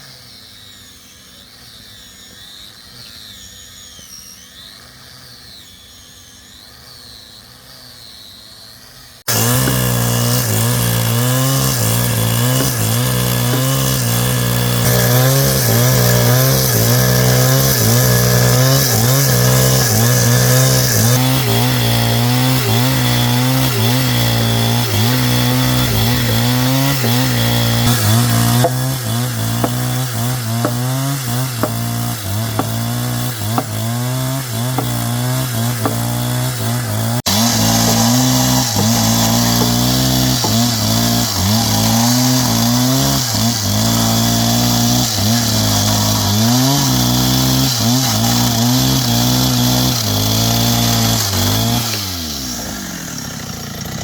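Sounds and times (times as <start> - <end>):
power tool cutting wood: 0.0 - 54.0.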